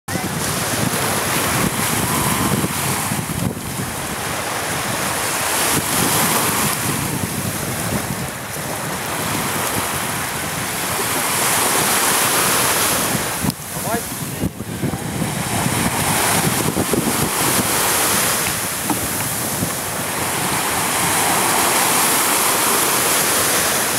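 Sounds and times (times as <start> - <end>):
rushing water and waves: 0.1 - 23.9
wind buffeting microphone: 0.1 - 23.9.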